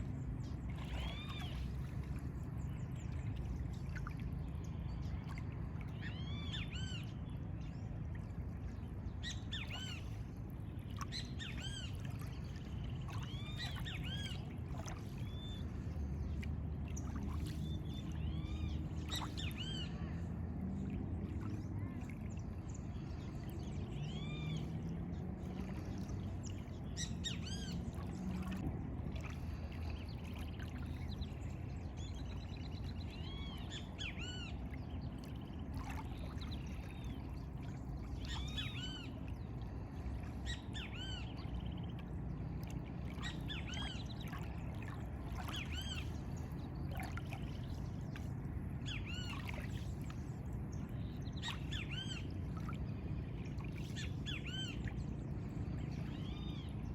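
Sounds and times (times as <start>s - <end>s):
water and air rush: 0.0s - 56.9s.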